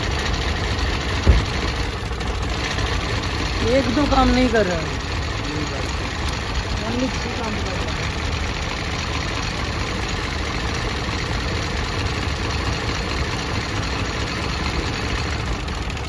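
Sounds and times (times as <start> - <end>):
car engine idling with misfire: 0.0 - 16.0.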